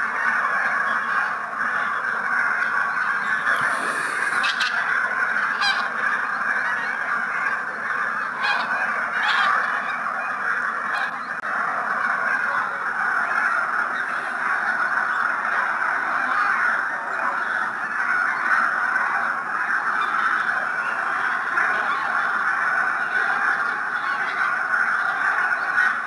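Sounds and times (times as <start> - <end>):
geese honking: 0.1 - 26.0.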